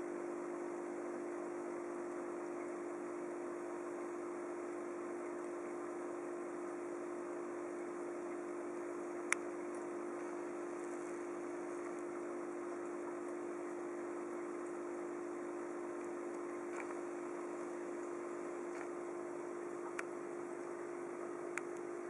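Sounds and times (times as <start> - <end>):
aquarium equipment hum: 0.0 - 22.0.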